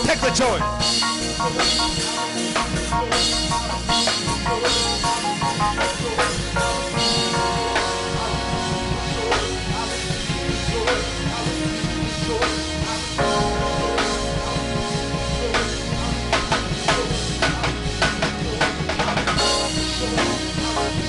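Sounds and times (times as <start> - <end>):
band playing held chords: 0.0 - 21.0
drum kit beat: 0.0 - 21.0.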